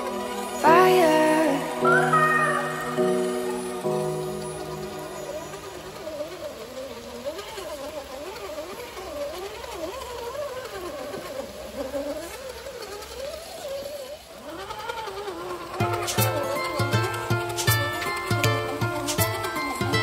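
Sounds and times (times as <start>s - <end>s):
rc truck electric motor whine: 0.0s - 20.0s.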